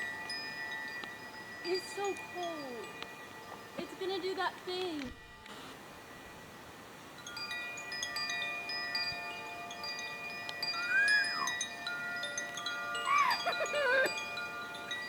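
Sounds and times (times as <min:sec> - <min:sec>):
chimes ringing: 0:00.0 - 0:15.0.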